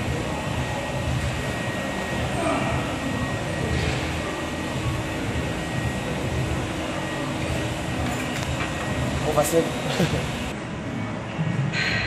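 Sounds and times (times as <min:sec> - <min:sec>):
ventilation hiss and hum: 0:00.0 - 0:12.0.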